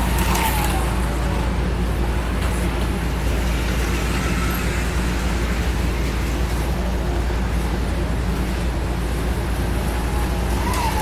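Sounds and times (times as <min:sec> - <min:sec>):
high motor whine: 0:00.0 - 0:11.0
model railway electric hum: 0:00.0 - 0:11.0.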